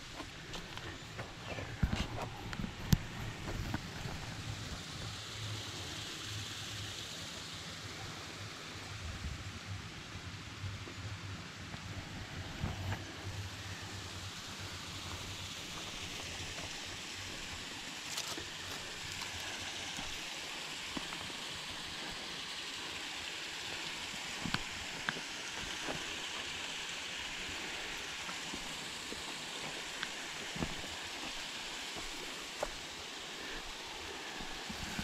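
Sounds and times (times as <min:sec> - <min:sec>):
creek water over rocks: 0:00.0 - 0:35.0.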